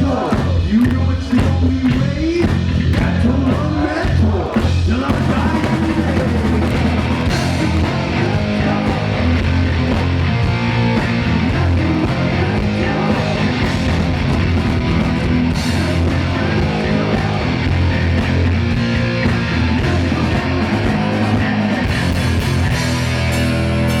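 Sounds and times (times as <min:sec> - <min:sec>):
heavy metal band playing live: 0:00.0 - 0:24.0
loud electric guitar: 0:00.0 - 0:24.0.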